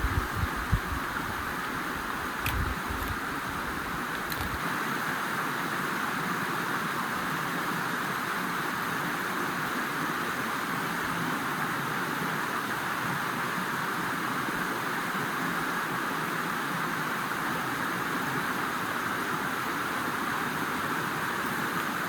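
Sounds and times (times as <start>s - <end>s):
fast-flowing river water: 0.0s - 22.0s.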